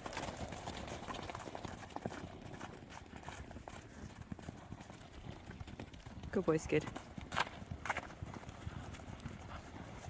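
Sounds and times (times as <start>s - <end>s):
horse hoofbeats: 0.0s - 10.0s.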